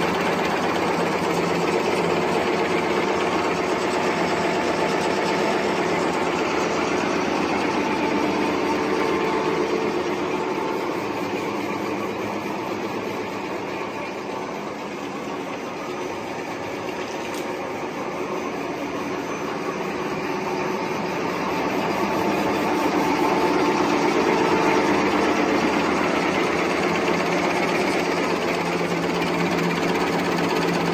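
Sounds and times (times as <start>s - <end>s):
folding machine clatter and whir: 0.0s - 30.9s.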